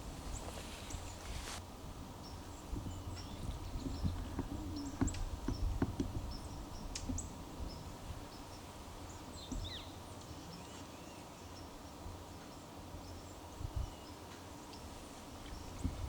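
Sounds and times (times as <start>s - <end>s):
small birds chirping: 0.0s - 1.6s, 2.2s - 16.0s.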